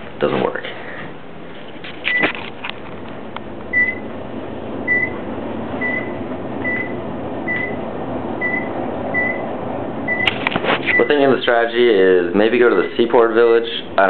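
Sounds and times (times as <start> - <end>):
elevator hum: 0.8 - 14.0.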